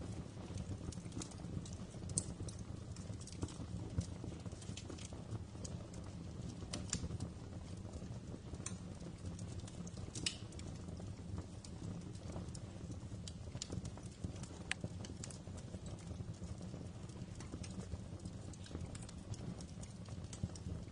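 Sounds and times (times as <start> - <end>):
low rumble of flames: 0.0 - 20.9
wood fire crackling and popping: 0.0 - 20.9.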